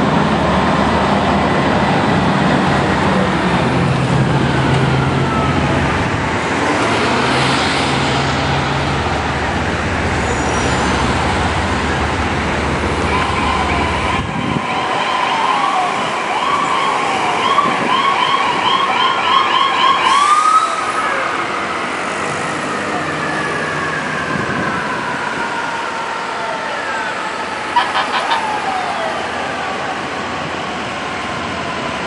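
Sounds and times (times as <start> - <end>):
city traffic: 0.0 - 32.0
emergency sirens wailing: 0.0 - 32.0.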